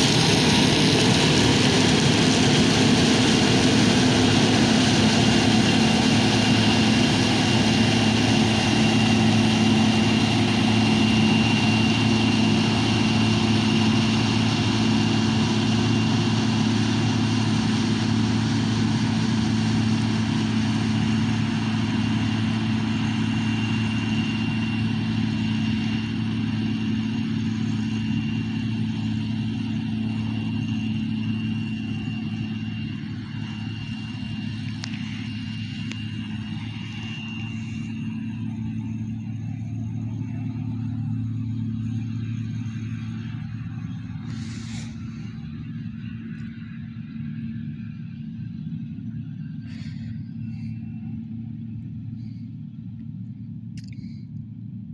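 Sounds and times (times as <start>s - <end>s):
high whine: 0.0s - 54.4s
combine engine drone: 0.0s - 54.9s.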